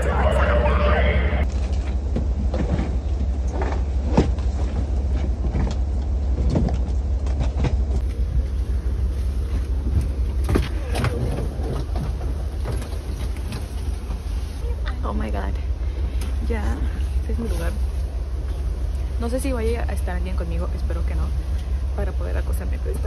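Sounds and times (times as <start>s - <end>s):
low rumble inside train car: 0.0s - 23.0s.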